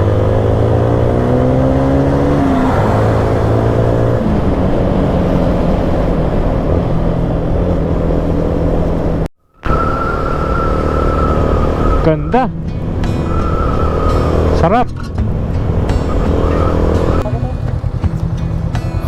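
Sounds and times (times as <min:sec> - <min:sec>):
motorcycle engine with gear changes: 0:00.0 - 0:19.0
wind rush: 0:01.1 - 0:18.7.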